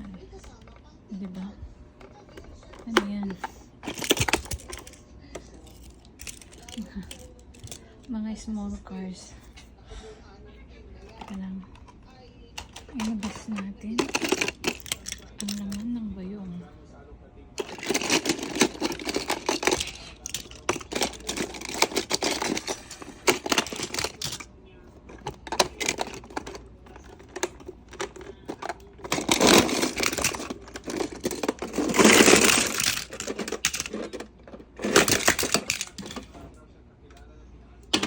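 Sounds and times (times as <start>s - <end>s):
toy cars clattering: 0.0s - 8.1s, 11.0s - 16.0s, 17.6s - 37.2s.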